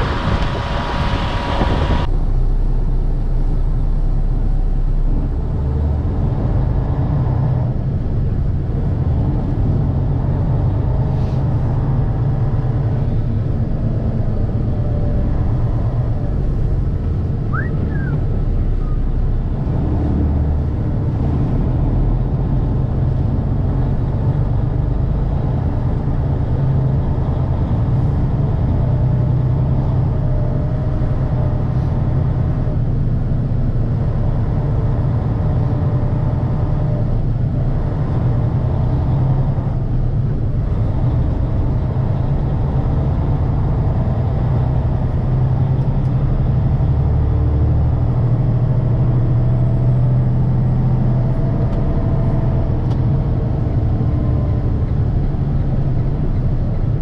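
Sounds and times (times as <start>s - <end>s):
truck engine and road noise: 0.0s - 57.0s.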